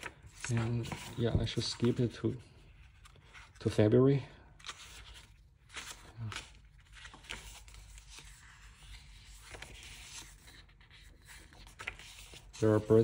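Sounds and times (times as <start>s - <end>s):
paper pages turning: 0.0s - 3.8s, 4.6s - 13.0s.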